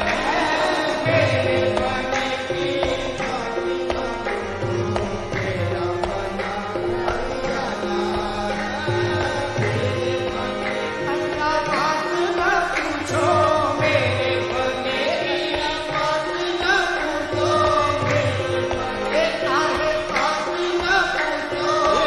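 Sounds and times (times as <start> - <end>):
harmonium notes: 0.0 - 22.0
person singing: 0.0 - 22.0
tabla rhythm: 0.0 - 22.0.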